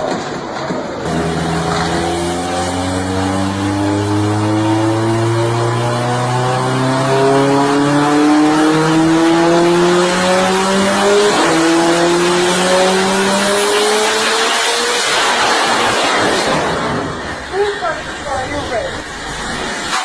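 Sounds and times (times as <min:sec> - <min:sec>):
road and tyre noise: 0:00.0 - 0:20.0
car engine accelerating: 0:01.0 - 0:20.0.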